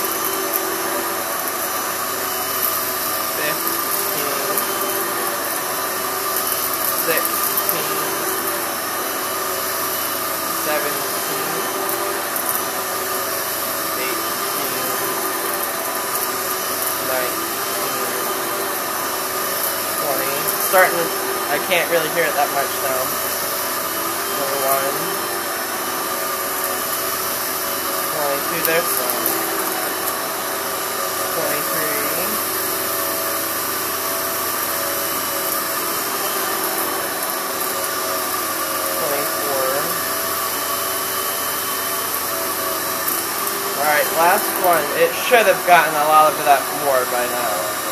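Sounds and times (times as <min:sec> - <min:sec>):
vacuum cleaner on carpet: 0:00.0 - 0:47.9.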